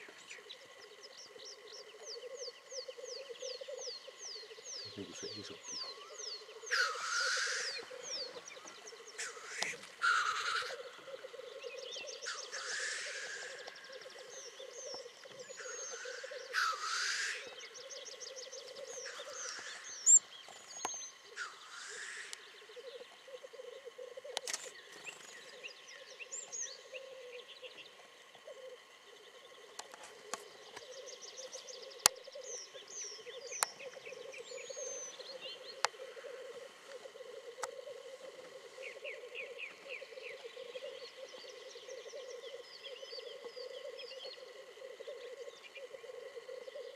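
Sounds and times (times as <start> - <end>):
grouse bubbling coo: 0.0 - 20.0, 21.1 - 46.9
grouse hissing calls: 0.0 - 46.9.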